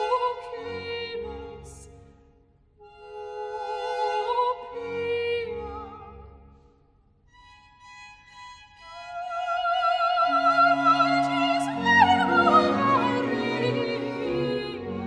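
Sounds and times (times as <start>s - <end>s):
soprano singing: 0.0s - 2.2s, 2.8s - 6.6s, 8.7s - 15.0s.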